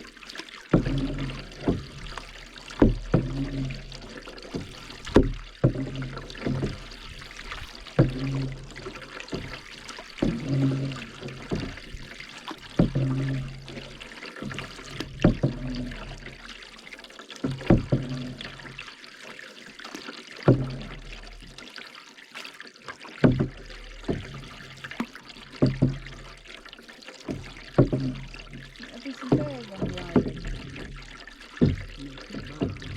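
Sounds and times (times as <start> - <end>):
canoe paddle strokes in water: 0.0 - 32.9
water trickling off paddle: 0.0 - 32.9.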